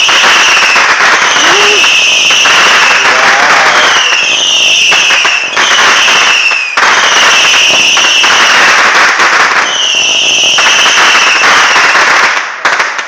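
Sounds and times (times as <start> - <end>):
fireworks crackling hiss: 0.0 - 13.0.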